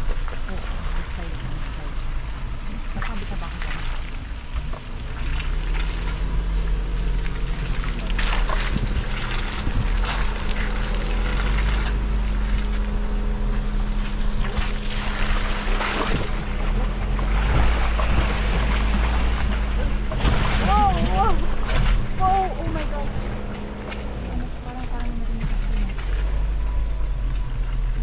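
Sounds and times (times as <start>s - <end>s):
engine running: 0.0s - 28.0s
wind rumble on microphone: 0.0s - 28.0s
knocks and rattles: 4.6s - 28.0s.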